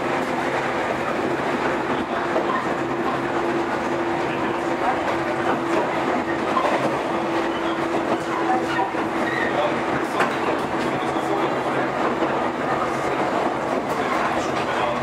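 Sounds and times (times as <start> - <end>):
electric train hum: 0.0 - 15.0
train wheels rumbling on rail: 0.0 - 15.0.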